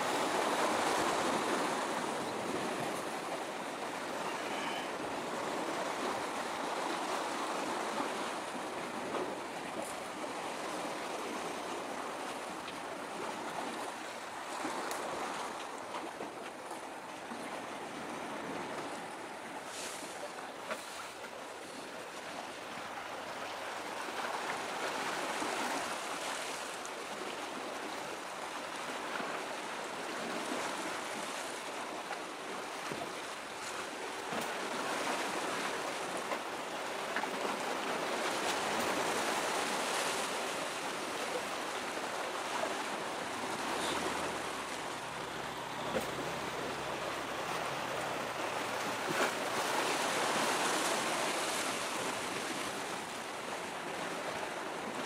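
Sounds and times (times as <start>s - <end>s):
waves washing: 0.0s - 55.0s
wind: 0.0s - 55.0s.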